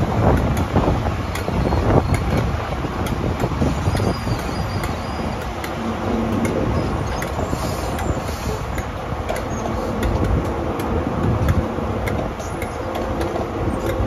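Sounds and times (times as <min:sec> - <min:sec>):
train engine and wheels rumbling: 0:00.0 - 0:14.0.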